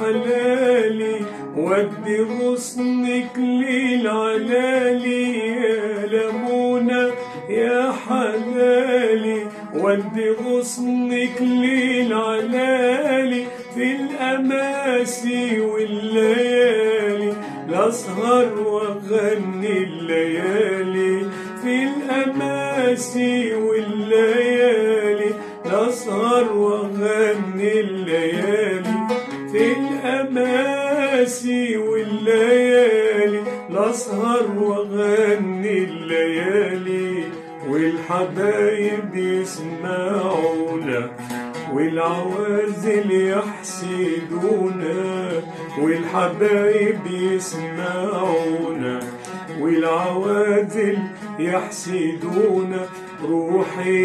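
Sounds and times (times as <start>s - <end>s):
man singing: 0.0s - 54.0s
oud plucked: 0.0s - 54.0s.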